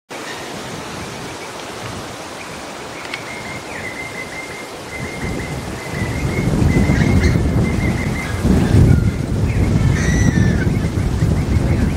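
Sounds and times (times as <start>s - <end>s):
steady hiss: 0.1s - 11.7s
wind rumble on microphone: 0.2s - 11.9s.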